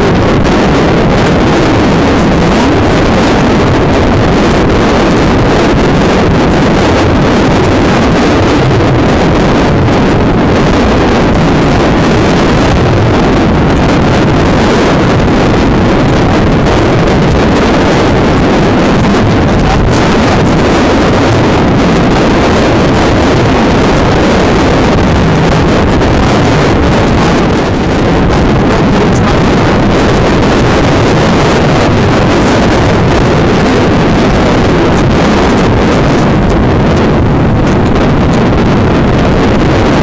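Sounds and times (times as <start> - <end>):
motorcycle engine: 0.0 - 40.0
wind buffeting microphone: 0.0 - 40.0.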